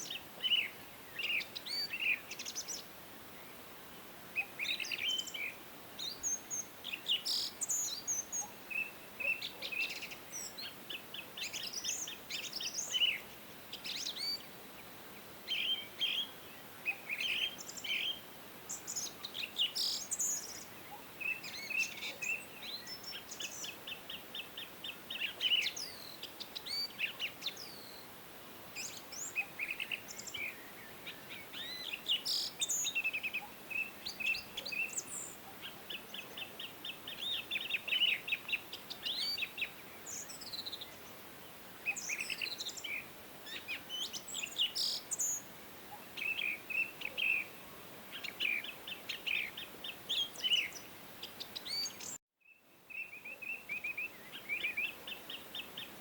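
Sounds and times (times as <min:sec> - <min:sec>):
faint steady hiss: 0:00.0 - 0:56.0
songbirds singing and chirping: 0:00.0 - 0:56.0.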